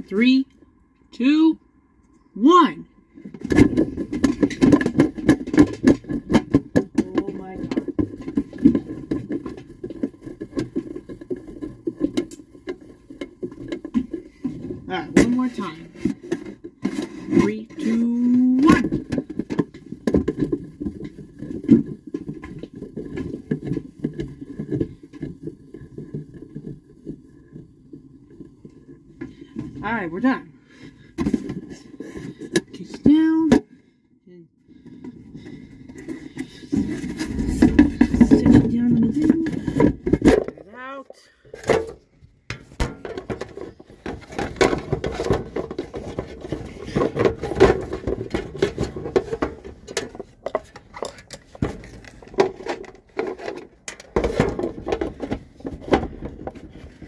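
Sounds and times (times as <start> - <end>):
plastic rubbing and scraping on phone: 3.5 - 29.5, 35.1 - 40.6, 42.7 - 57.0.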